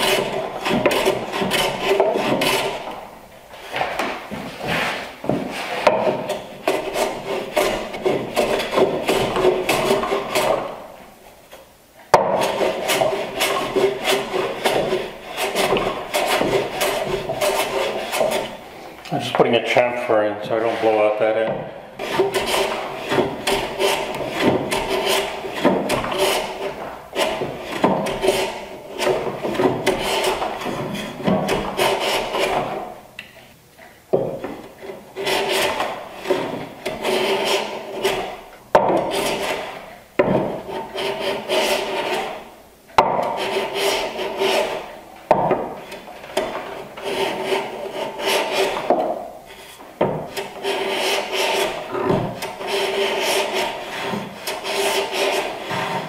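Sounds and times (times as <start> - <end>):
hand plane rasping across wood: 0.0 - 11.0, 12.1 - 18.6, 20.4 - 21.3, 22.0 - 33.0, 34.2 - 56.0.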